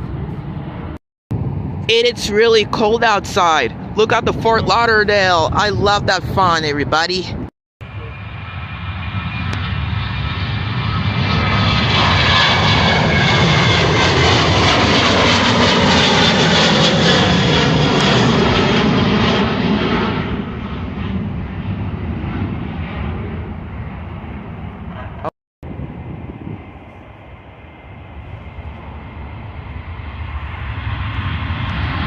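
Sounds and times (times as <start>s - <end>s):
jet engines at takeoff passing: 0.0s - 32.0s.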